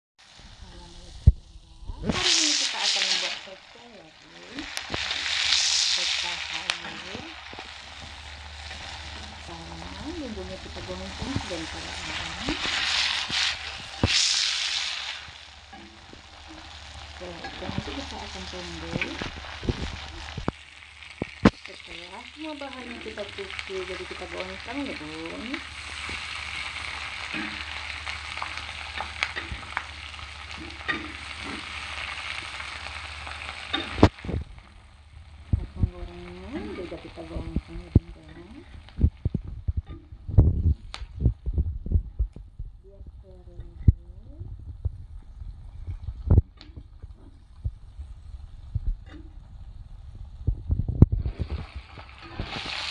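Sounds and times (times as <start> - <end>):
food sizzling in a wok: 0.2 - 41.2, 44.5 - 52.9
steady low hum: 0.3 - 2.2, 3.0 - 14.2, 15.0 - 52.6.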